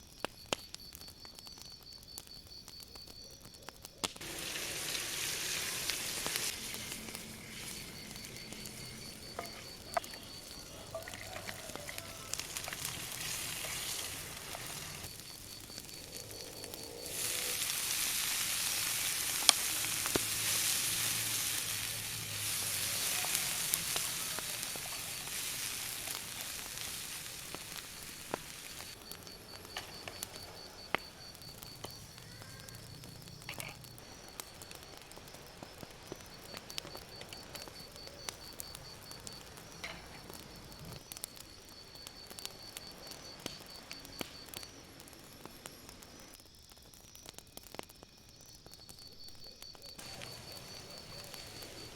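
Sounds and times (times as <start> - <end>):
sharp crackles: 0.0 - 51.9
food sizzling in a pan: 4.1 - 46.4, 50.0 - 51.9.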